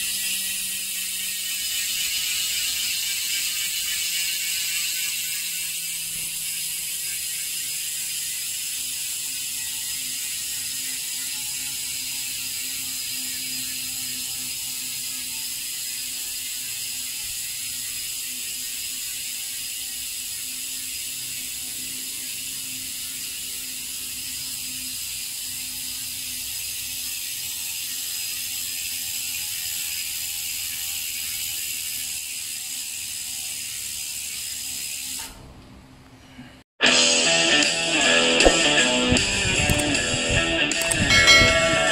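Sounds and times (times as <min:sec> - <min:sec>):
bike hub ratcheting buzz: 0:00.0 - 0:35.4, 0:37.5 - 0:41.9.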